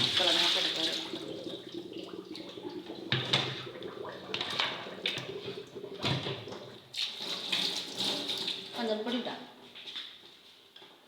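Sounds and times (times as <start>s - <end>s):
water sloshing and splashing: 0.0s - 9.0s.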